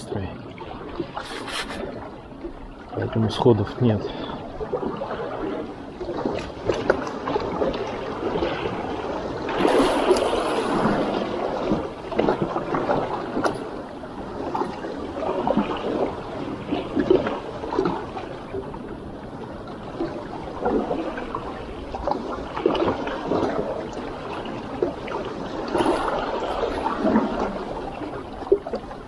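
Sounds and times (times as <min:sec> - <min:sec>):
waves lapping against rocks: 0:00.0 - 0:29.0.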